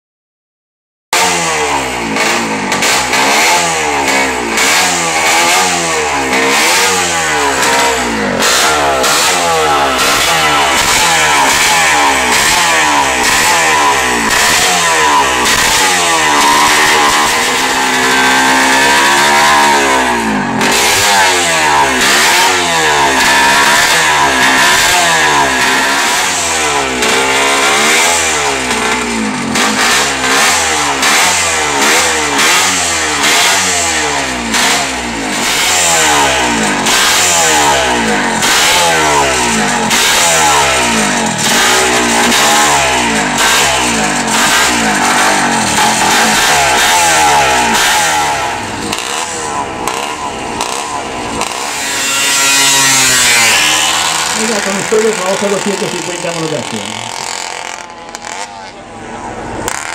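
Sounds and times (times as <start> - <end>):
two-stroke motorcycle engine revving: 1.1 - 59.9.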